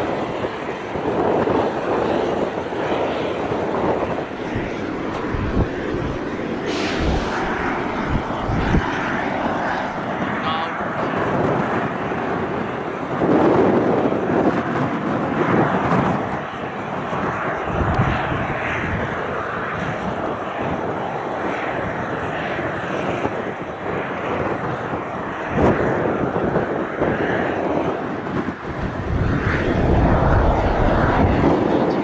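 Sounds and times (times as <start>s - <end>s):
jet engines roaring: 0.0s - 32.0s
wind hitting microphone: 0.0s - 32.0s.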